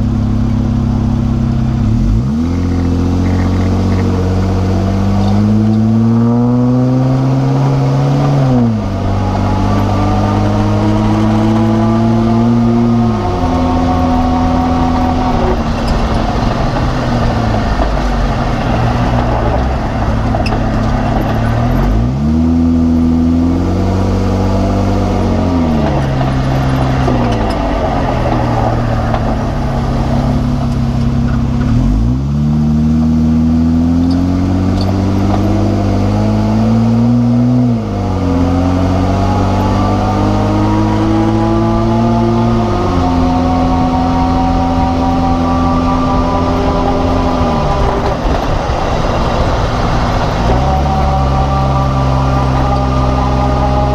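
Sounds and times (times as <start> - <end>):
car engine revving: 0.0 - 53.9
high-pitched drivetrain whine: 0.0 - 53.9.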